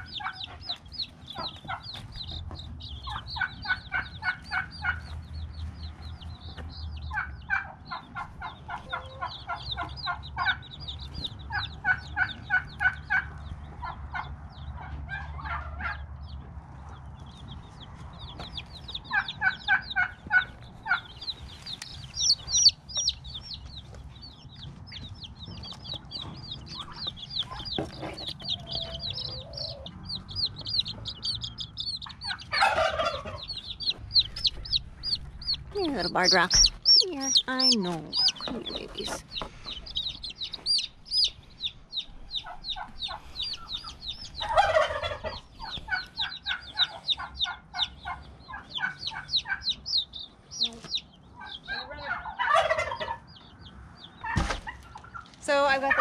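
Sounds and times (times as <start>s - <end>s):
chicken clucking: 0.0s - 56.0s
chicks peeping: 0.0s - 56.0s.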